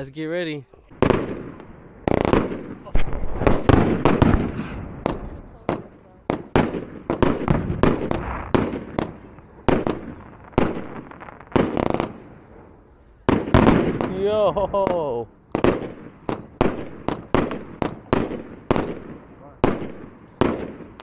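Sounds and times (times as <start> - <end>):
fireworks bangs with rumbling echo: 0.8 - 21.0.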